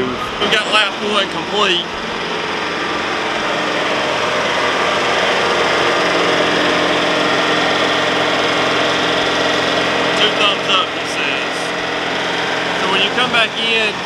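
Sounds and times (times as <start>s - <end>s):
tractor engine under load: 0.0s - 14.0s.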